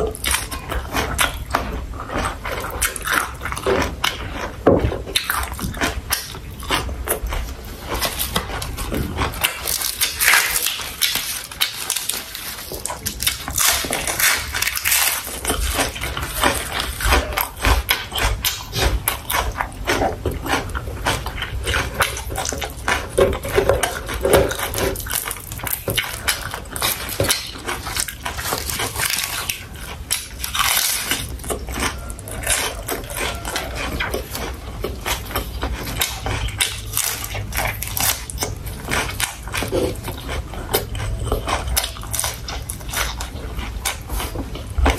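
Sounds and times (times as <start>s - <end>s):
wet chewing and mouth sounds: 0.0s - 44.9s.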